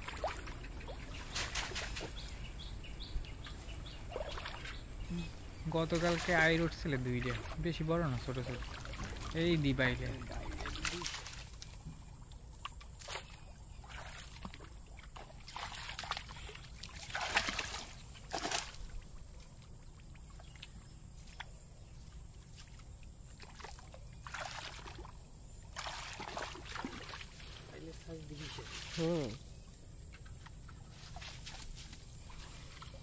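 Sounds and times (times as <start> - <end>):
shallow water sloshing and splashing: 0.0 - 33.0.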